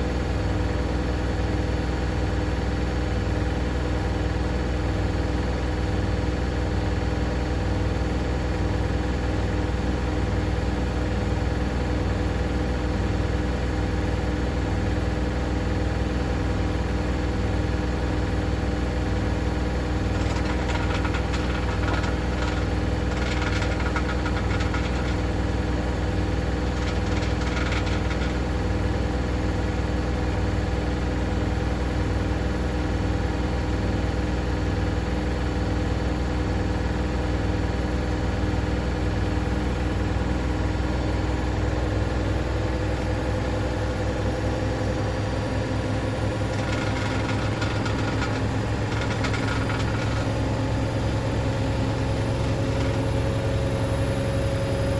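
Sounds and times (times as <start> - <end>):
washing machine running: 2.4 - 35.4, 42.3 - 54.9.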